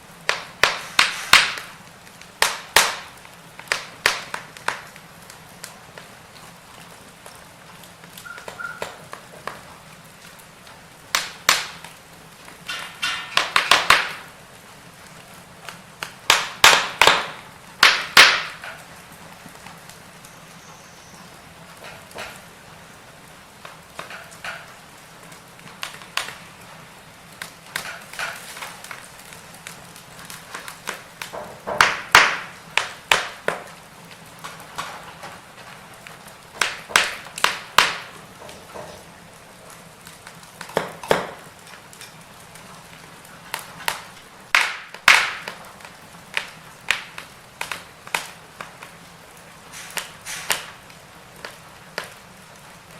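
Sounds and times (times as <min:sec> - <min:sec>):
faint steady hiss: 0:00.0 - 0:52.9
firewood crackling and popping: 0:00.0 - 0:52.9.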